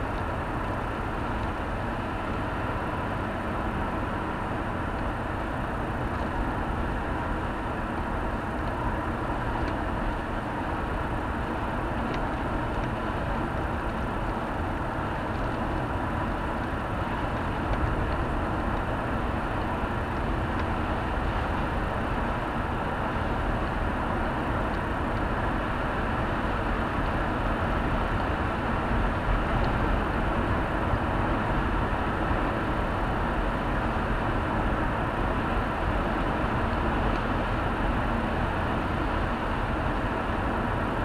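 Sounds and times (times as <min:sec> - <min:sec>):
car road and engine noise: 0:00.0 - 0:41.0.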